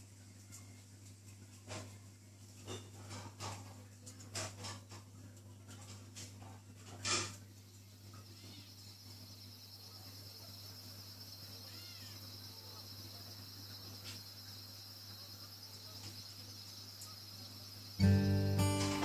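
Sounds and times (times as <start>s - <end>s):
aquarium equipment hum: 0.0s - 19.0s.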